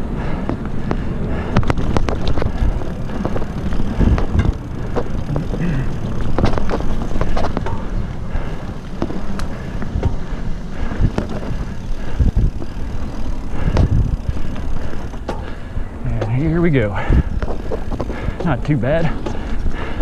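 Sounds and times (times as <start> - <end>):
bike clattering over bumps: 0.0 - 20.0
tyre noise: 0.0 - 20.0
wind buffeting microphone: 0.0 - 20.0.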